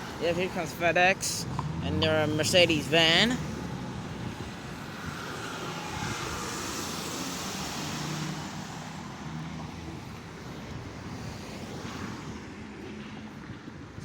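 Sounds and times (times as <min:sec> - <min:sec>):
road traffic passing: 0:00.0 - 0:14.0
van engine and tyre noise: 0:00.0 - 0:14.0.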